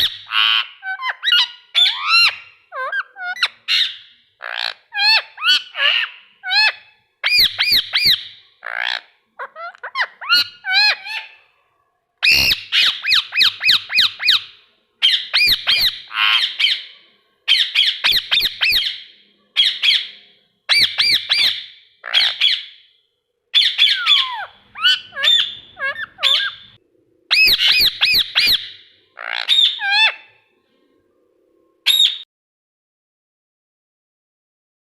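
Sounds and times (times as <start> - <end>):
parakeet screeching: 0.0 - 11.4, 12.2 - 16.9, 17.5 - 22.8, 23.6 - 30.3.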